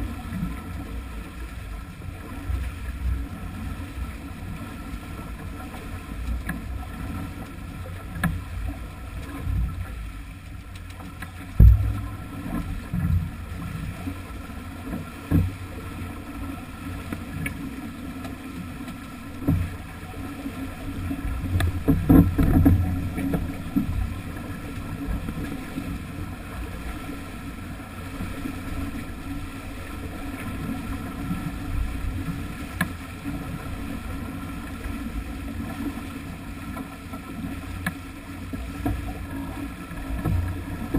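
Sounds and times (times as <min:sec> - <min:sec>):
water rushing along hull: 0:00.0 - 0:40.9.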